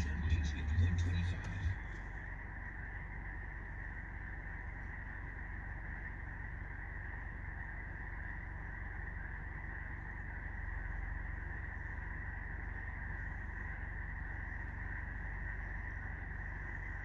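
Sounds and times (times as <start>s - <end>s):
frogs chorus trilling: 0.0s - 17.0s
low steady rumble: 0.0s - 17.0s.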